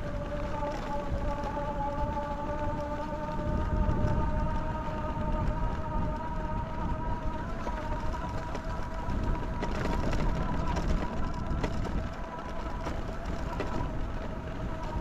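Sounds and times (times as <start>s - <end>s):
bike clicks and rattles: 0.0s - 15.0s
electric bike motor whining: 0.0s - 15.0s
tyre and wind rumble: 0.0s - 15.0s.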